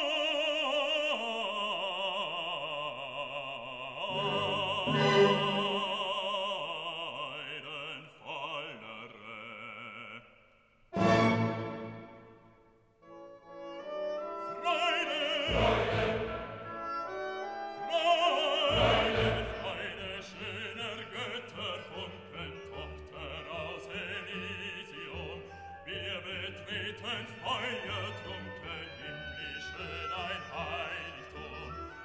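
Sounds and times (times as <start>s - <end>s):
operatic singing with orchestra: 0.0s - 10.2s, 10.9s - 12.4s, 14.2s - 32.0s.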